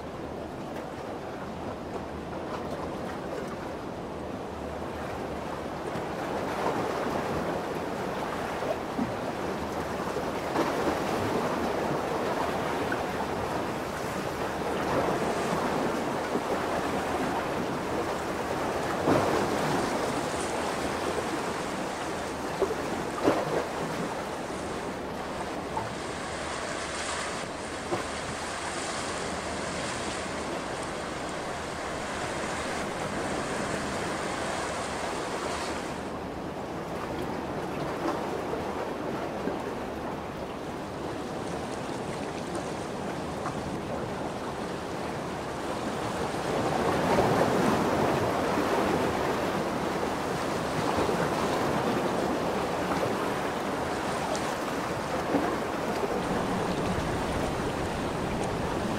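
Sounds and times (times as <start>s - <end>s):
lake waves washing in: 0.0s - 58.9s.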